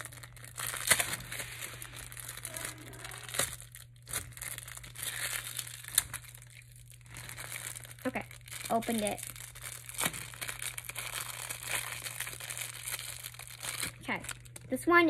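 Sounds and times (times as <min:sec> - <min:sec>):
packaging crinkling and tearing: 0:00.0 - 0:14.8.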